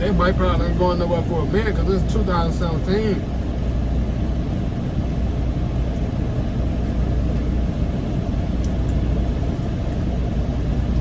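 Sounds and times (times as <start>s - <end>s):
vehicle driving rumble: 0.0s - 11.0s.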